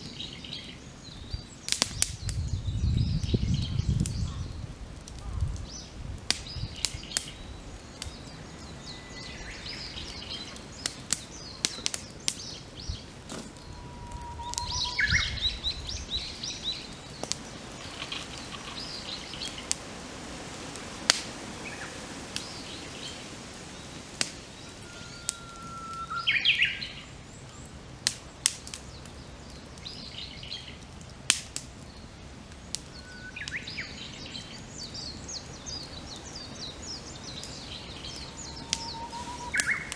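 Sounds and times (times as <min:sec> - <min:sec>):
wild birds chirping: 0:00.0 - 0:30.9, 0:31.8 - 0:39.9
campfire crackling and popping: 0:00.0 - 0:39.9.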